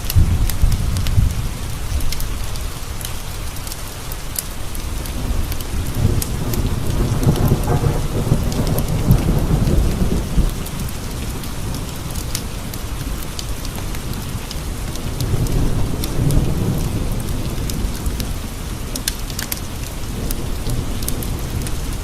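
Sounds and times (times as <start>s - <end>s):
rolling thunder rumble: 0.0s - 3.6s, 4.6s - 22.0s
heavy rain: 0.0s - 22.0s
wood fire crackling: 0.0s - 22.0s.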